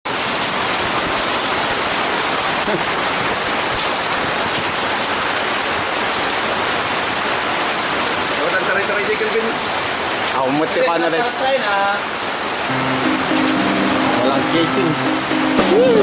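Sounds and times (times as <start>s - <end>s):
steady rain hiss: 0.1s - 16.0s.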